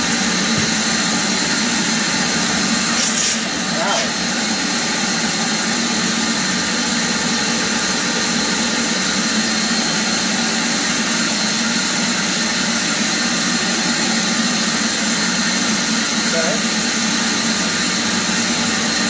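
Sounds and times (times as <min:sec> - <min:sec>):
shop vacuum running: 0:00.0 - 0:19.0.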